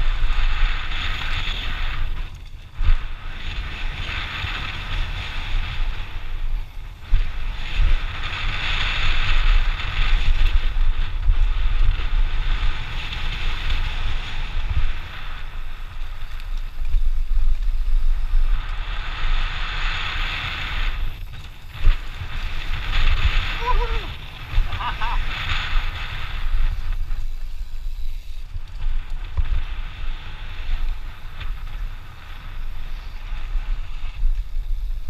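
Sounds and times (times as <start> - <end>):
bike rattling: 0.0 - 35.0
wind buffeting microphone: 0.0 - 35.0.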